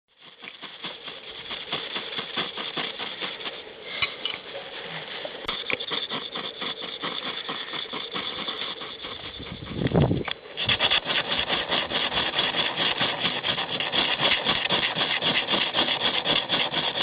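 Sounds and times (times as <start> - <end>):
striker scraping fire-steel rod: 0.1 - 4.5, 5.4 - 17.0.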